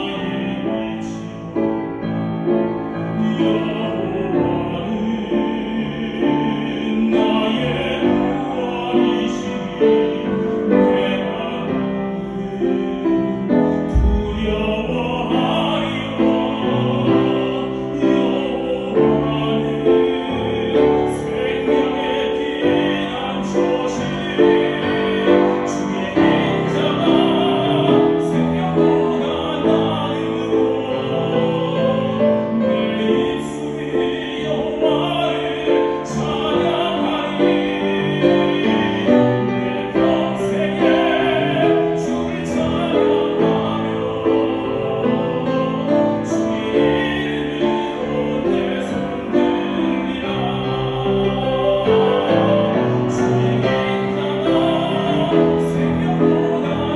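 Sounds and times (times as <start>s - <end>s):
piano accompaniment: 0.0s - 56.9s
person singing: 3.0s - 56.9s.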